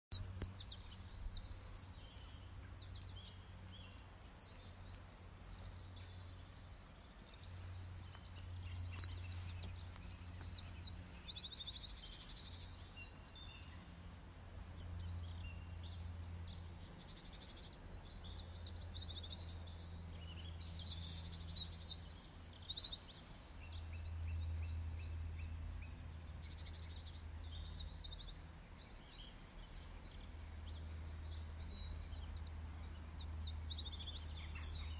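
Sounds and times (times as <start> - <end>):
small birds chirping: 0.1 - 34.9
low steady hum: 0.2 - 34.5.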